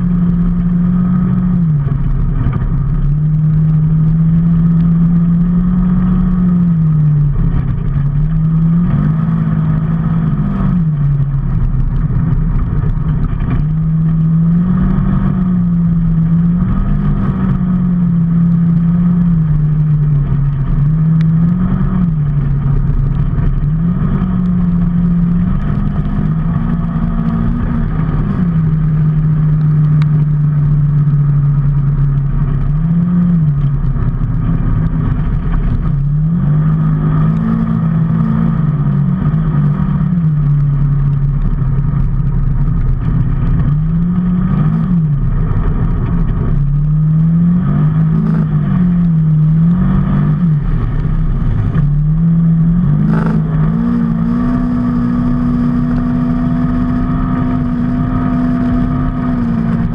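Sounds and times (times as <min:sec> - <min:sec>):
road and wind noise: 0:00.0 - 0:59.9
vehicle engine revving: 0:00.0 - 0:59.9.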